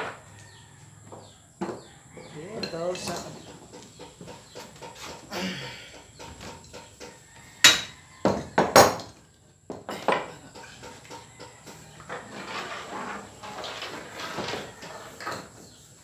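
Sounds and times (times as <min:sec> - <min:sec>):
metal tools clanking on wooden floor: 0:00.0 - 0:15.9.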